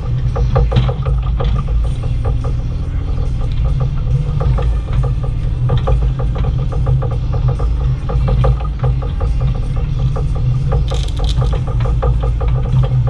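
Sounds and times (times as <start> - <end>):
excavator diesel engine running: 0.0 - 13.0
metallic clanks and rattles: 0.0 - 13.0.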